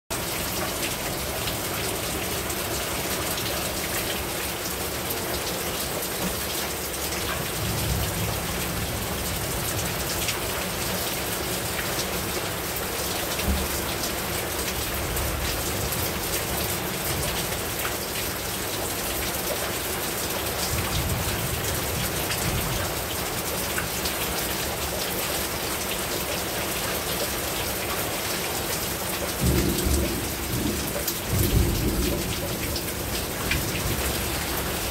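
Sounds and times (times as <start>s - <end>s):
rain falling on a rooftop: 0.1s - 34.9s.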